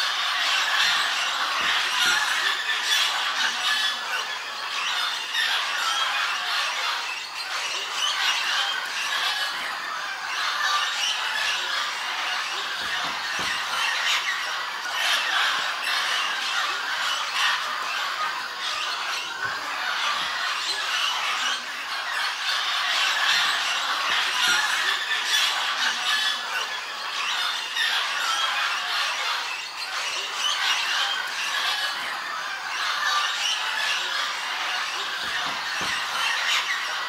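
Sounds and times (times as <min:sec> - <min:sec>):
parrots squawking and chattering: 0:00.0 - 0:37.0.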